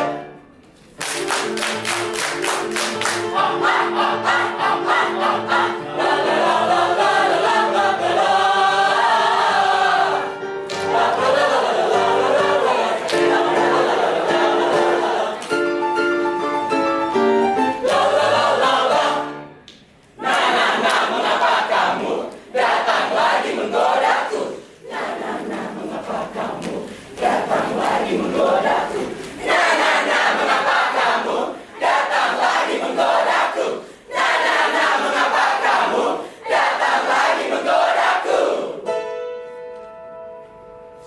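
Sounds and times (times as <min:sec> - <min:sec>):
choir singing in harmony: 0:03.1 - 0:16.4, 0:17.1 - 0:19.5, 0:20.2 - 0:38.9.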